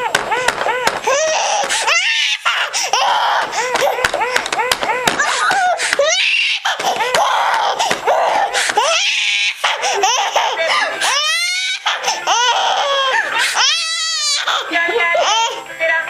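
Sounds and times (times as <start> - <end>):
baby laughing: 0.0 - 15.6.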